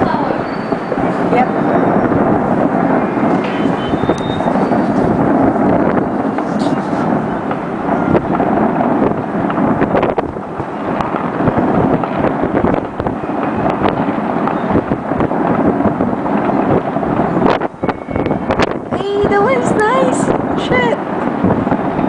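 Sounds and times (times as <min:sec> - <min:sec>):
fireworks and firecrackers crackling: 0:00.0 - 0:22.0.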